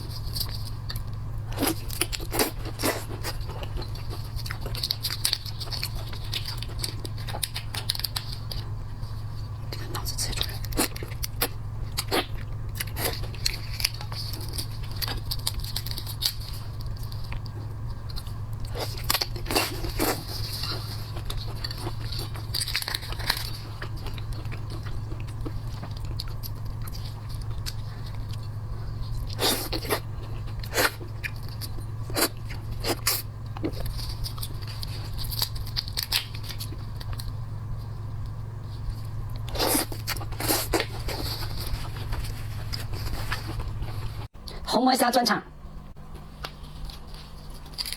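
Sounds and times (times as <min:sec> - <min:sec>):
shellfish shell cracking and chewing: 0:00.0 - 0:44.6, 0:46.0 - 0:47.9
steady low hum: 0:00.0 - 0:47.9.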